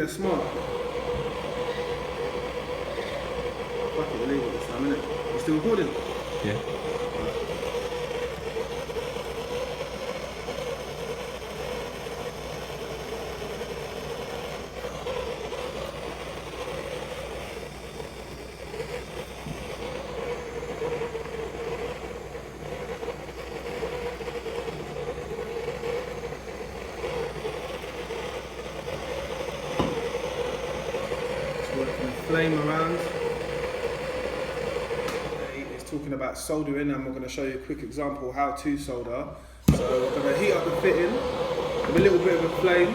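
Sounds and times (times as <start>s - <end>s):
blowtorch flame burning: 0.0s - 36.6s, 39.6s - 42.9s.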